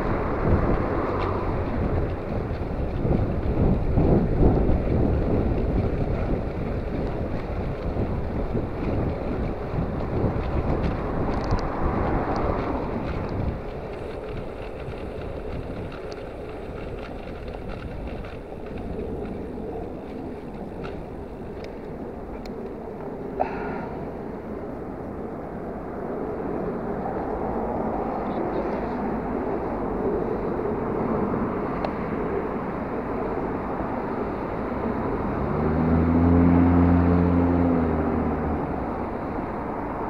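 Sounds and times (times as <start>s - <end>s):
wind buffeting the microphone: 0.0s - 40.0s.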